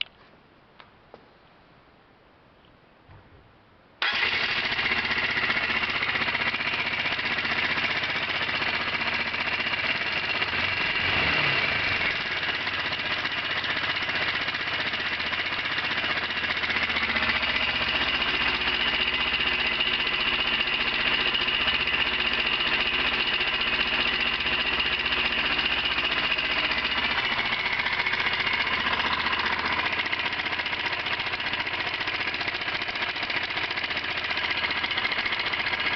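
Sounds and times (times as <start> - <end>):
engine revving: 4.0 - 35.9
motorcycle engine idling: 4.0 - 35.9.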